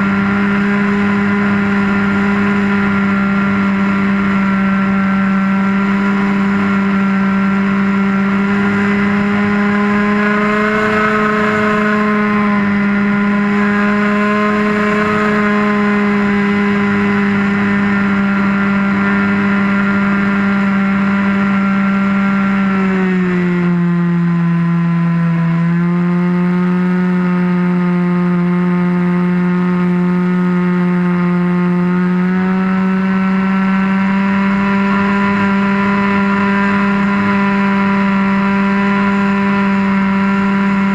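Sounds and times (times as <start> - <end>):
model airplane engine running: 0.0 - 40.9.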